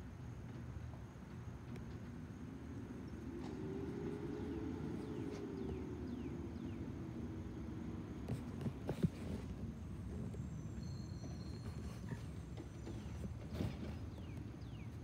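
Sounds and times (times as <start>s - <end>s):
low traffic rumble: 0.0s - 15.0s
distant vehicle engine running: 1.6s - 14.9s.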